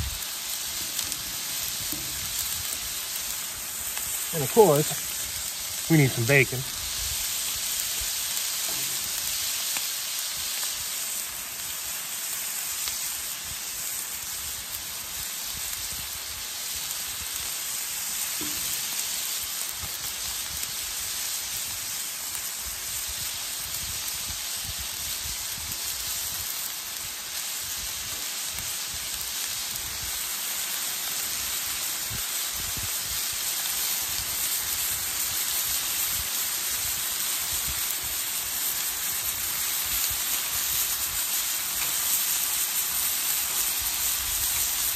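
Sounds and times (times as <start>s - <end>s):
bacon sizzling: 0.0s - 44.9s
sausage sizzling on griddle: 0.0s - 44.9s.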